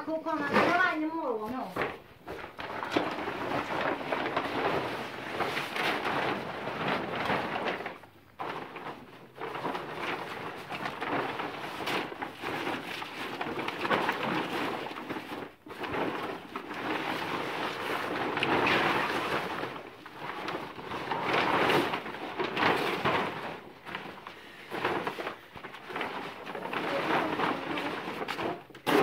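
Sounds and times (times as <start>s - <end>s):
plastic sheet rustling: 0.0s - 29.0s.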